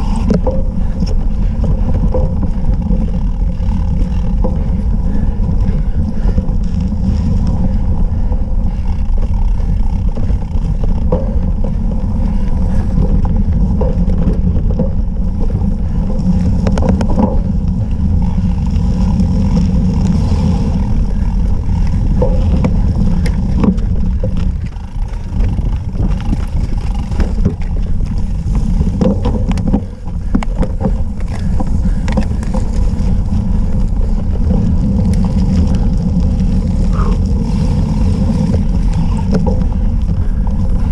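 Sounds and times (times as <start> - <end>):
bike rattling and clicking: 0.0 - 40.9
bike tyres rumbling on grass: 0.0 - 40.9
wind buffeting microphone: 0.0 - 40.9.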